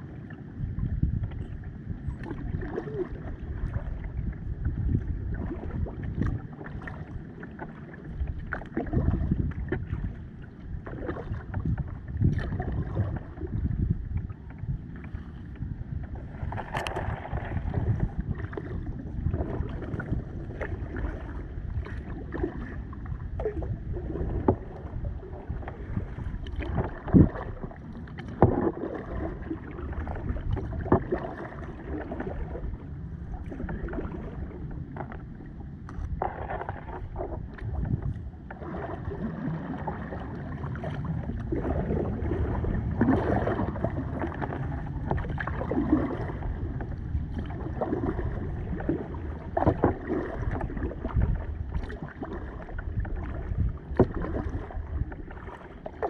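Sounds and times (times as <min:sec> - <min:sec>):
paddle strokes through water: 0:00.0 - 0:56.0.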